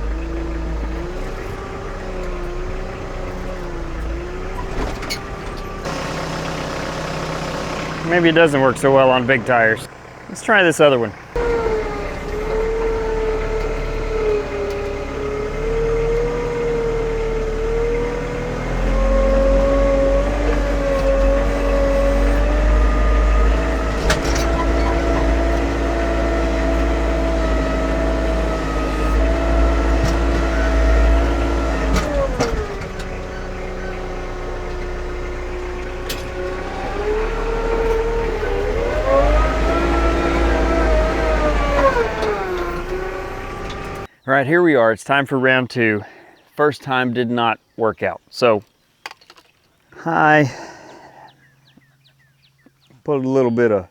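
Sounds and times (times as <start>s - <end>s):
vehicle engine revving: 0.0s - 44.1s.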